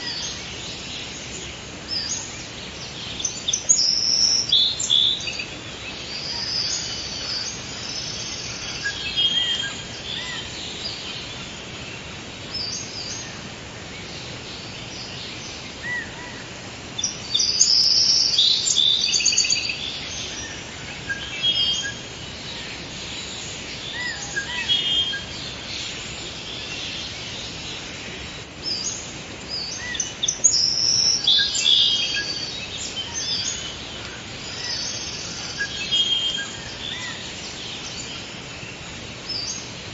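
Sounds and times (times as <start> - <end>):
birds chirping and trilling: 0.0 - 39.9
steady background hiss: 0.0 - 39.9.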